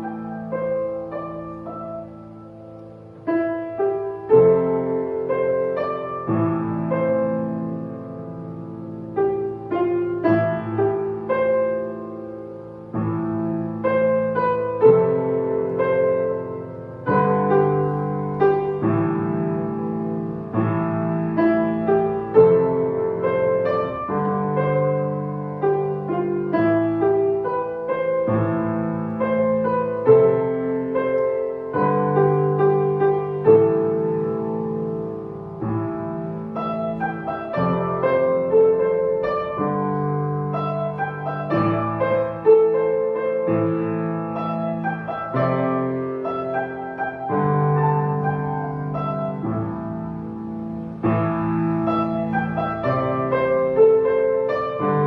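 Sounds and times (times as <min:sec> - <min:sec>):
solo piano playing: 0:00.0 - 0:55.0.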